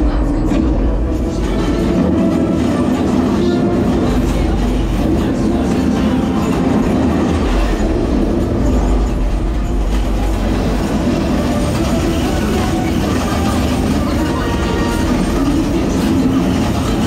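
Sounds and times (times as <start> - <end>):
ride vehicle rumbling along track: 0.0 - 17.0.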